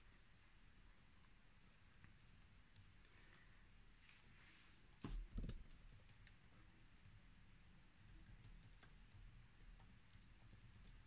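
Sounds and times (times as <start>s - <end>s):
faint keyboard typing: 0.0s - 3.6s, 4.7s - 11.0s.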